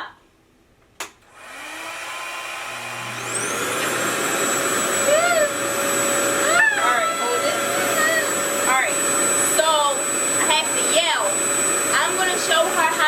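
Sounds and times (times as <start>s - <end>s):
motor whine rising in pitch: 1.3s - 13.0s.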